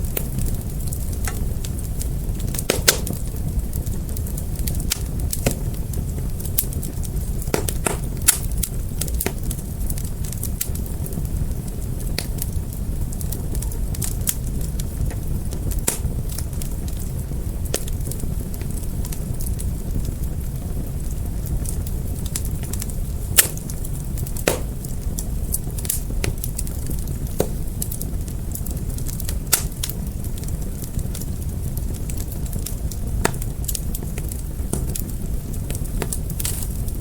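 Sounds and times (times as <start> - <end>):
fire crackling and popping: 0.0 - 37.0
wood fire rumbling: 0.0 - 37.0.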